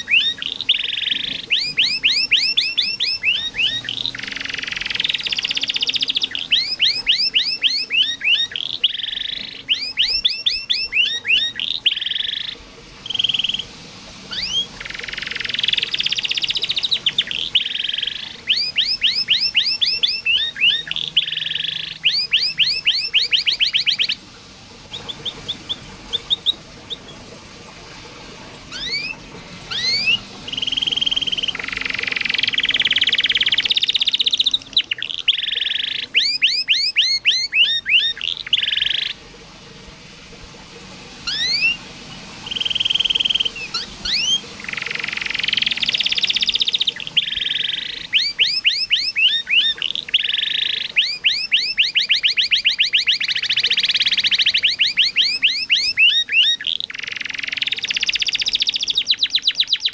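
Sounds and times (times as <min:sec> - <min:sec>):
canary singing: 0:00.0 - 0:27.3, 0:28.5 - 0:39.2, 0:41.2 - 0:59.9.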